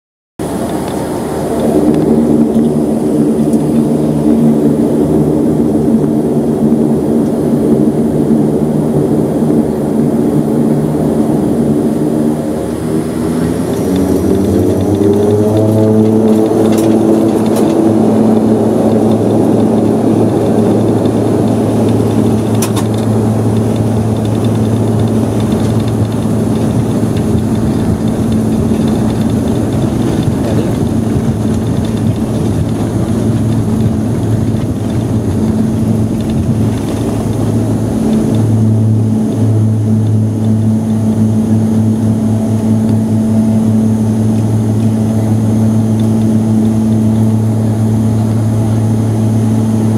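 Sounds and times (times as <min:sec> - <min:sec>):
propeller drone: 0:00.4 - 0:49.9
rushing noise: 0:00.4 - 0:49.9.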